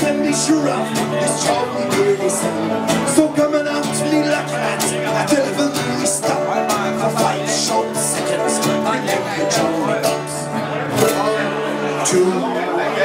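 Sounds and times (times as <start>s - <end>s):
folk tune on banjo and guitars: 0.0s - 13.0s.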